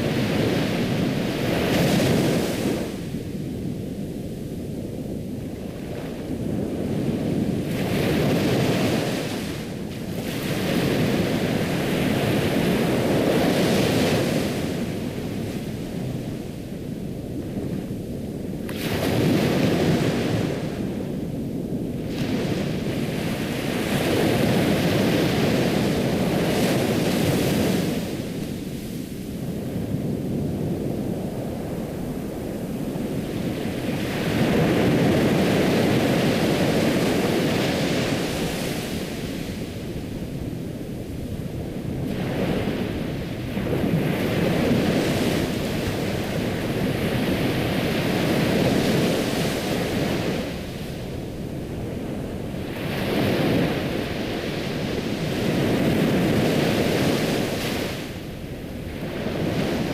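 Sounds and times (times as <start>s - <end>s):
ocean waves washing: 0.0s - 59.9s.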